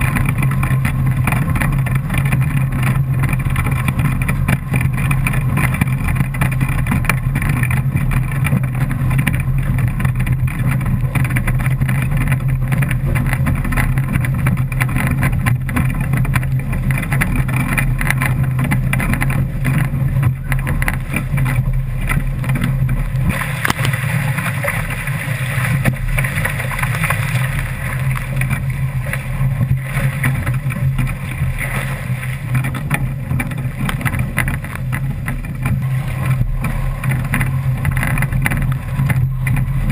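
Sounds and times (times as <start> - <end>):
water spray along hull: 0.0 - 39.9
wind buffeting camera: 0.0 - 39.9.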